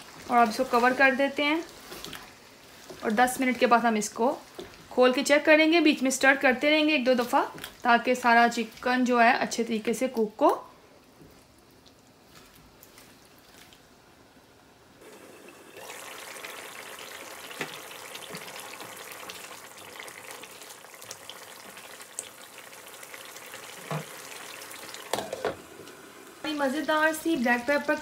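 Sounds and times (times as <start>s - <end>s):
curry sizzling and bubbling: 0.0s - 28.0s.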